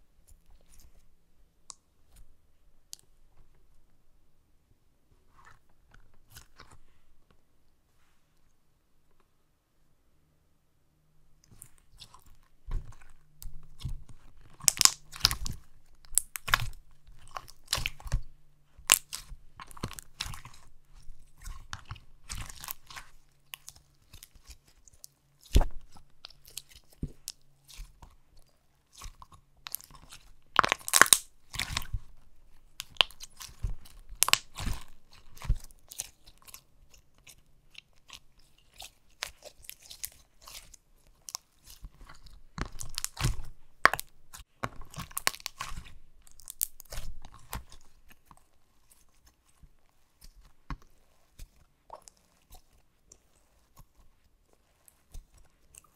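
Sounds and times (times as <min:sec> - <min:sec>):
slime squelching: 0:00.2 - 0:03.6, 0:05.1 - 0:07.1, 0:11.3 - 0:55.9.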